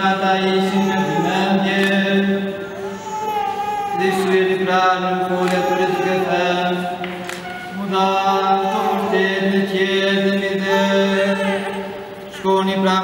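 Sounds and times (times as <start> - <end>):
person chanting: 0.0 - 13.0.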